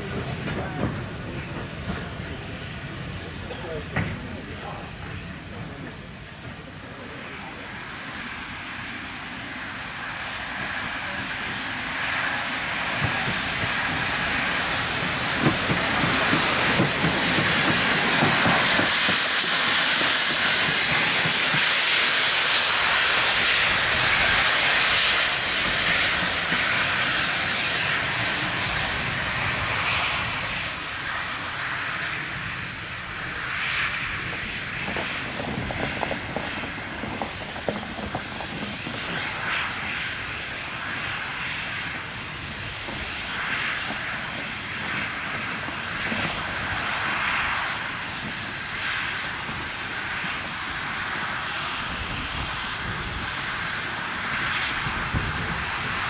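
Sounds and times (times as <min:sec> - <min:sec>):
steam train passing: 0:00.0 - 0:56.0.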